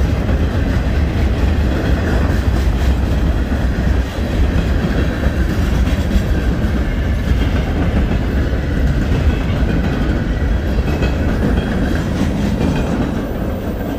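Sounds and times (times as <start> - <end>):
freight train rolling past: 0.0 - 13.9
train wheels clicking: 0.0 - 13.9.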